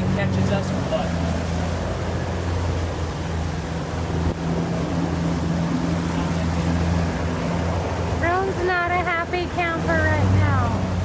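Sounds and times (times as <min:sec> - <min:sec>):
boat motor humming: 0:00.0 - 0:11.0
wind and water rushing: 0:00.0 - 0:11.0.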